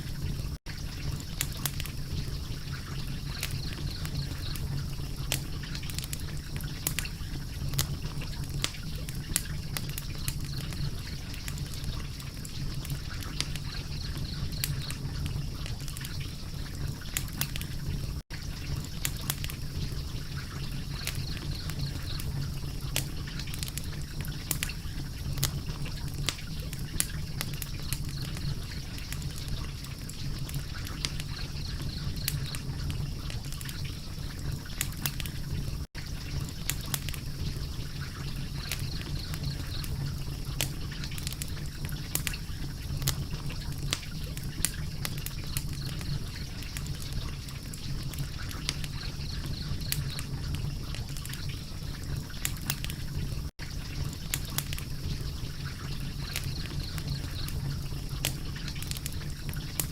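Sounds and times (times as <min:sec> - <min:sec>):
fire crackling with pops: 0:00.0 - 0:59.9.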